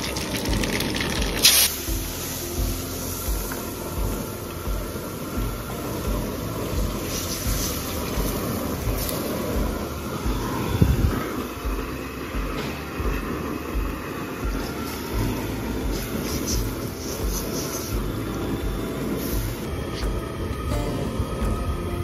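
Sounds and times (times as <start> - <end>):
background music with low beat: 0.0 - 22.0.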